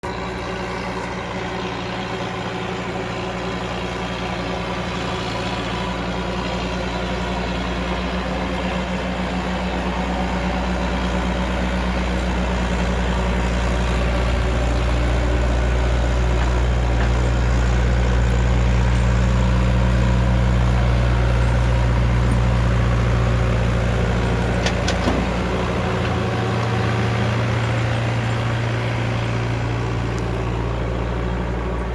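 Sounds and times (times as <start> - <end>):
backhoe engine running: 0.0 - 31.9.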